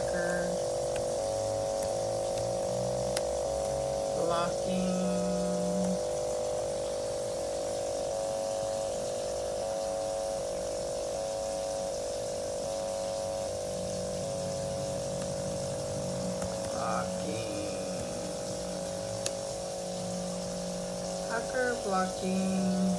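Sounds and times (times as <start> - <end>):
laptop electronic whine: 0.0 - 22.9.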